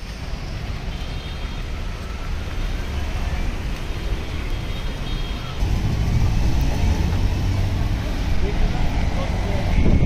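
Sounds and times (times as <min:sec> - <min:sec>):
cars passing with low rumble: 0:00.0 - 0:10.0.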